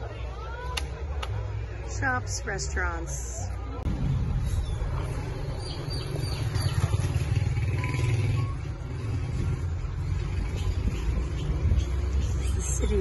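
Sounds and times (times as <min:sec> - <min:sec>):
engine low rumble: 0:01.1 - 0:13.0.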